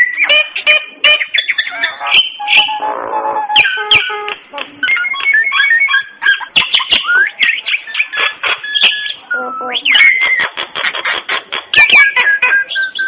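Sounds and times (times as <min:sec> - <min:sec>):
bird chirps whistles and clicks: 0:01.1 - 0:02.8, 0:03.5 - 0:13.0.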